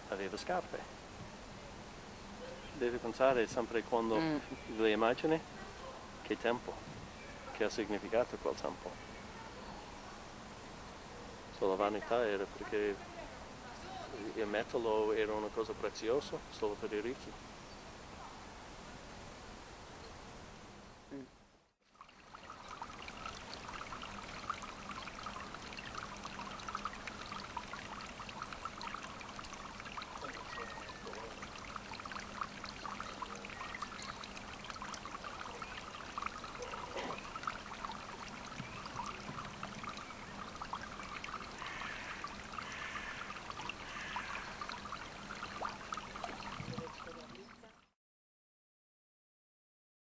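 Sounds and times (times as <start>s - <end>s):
running water trickling: 2.0s - 17.9s, 21.8s - 48.0s.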